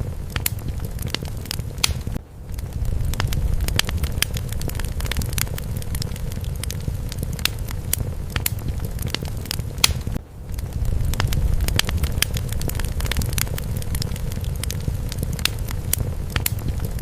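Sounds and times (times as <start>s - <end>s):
fire crackling and popping: 0.0s - 17.0s
steady low rumble: 0.0s - 17.0s.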